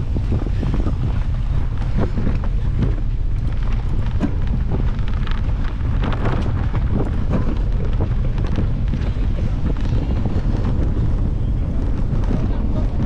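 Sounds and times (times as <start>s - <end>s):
bike rattling and knocking: 0.0s - 13.0s
low rumble: 0.0s - 13.0s
wind buffeting microphone: 0.0s - 13.0s.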